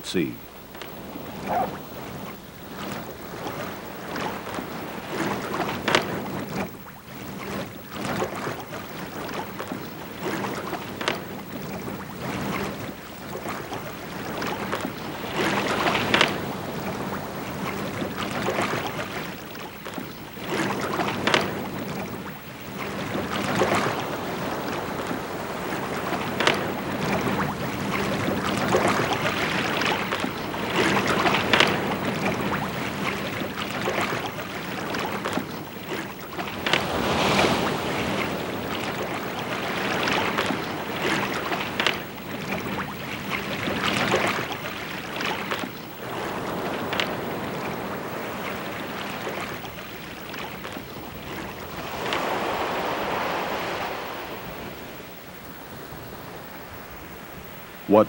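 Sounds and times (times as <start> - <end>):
water sloshing and splashing: 0.5 - 58.0
swimming splashes: 0.7 - 57.0.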